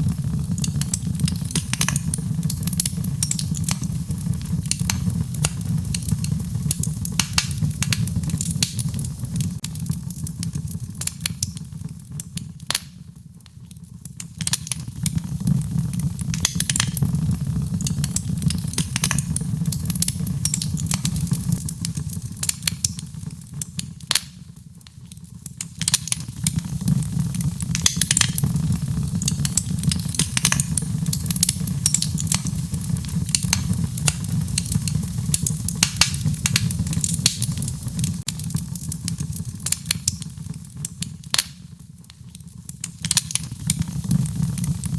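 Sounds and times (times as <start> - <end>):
fire crackling in fireplace: 0.0 - 44.9.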